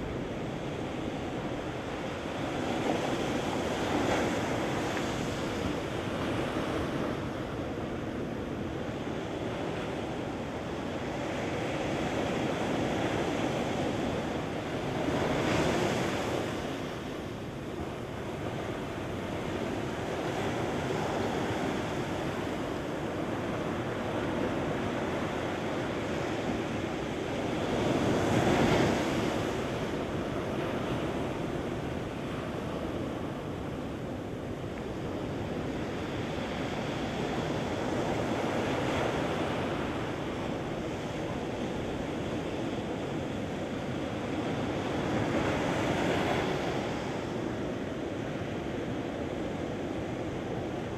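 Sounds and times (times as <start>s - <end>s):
ocean surf washing up beach: 0.0s - 50.9s.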